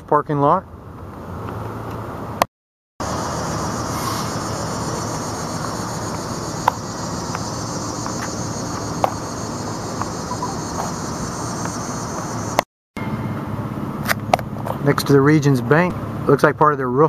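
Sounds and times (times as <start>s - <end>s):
street background hiss and hum: 0.0s - 17.0s.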